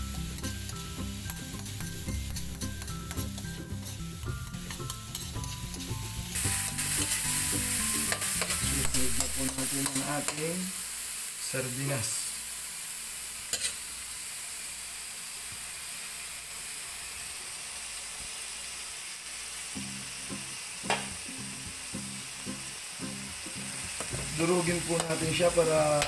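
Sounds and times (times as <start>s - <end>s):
fish sizzling in oil: 0.0s - 26.0s.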